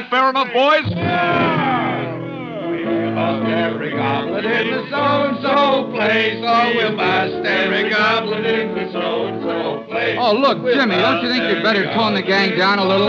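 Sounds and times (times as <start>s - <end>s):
piano: 0.9s - 13.0s
men singing together: 1.1s - 13.0s.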